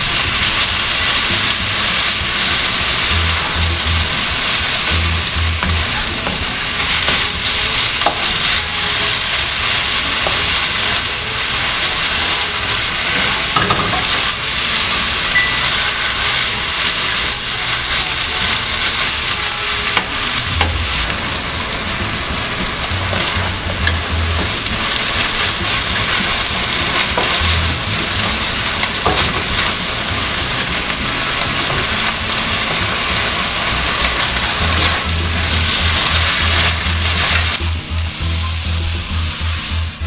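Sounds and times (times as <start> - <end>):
spatula scraping a pan: 0.0 - 39.8
meat sizzling in a frying pan: 0.0 - 40.0.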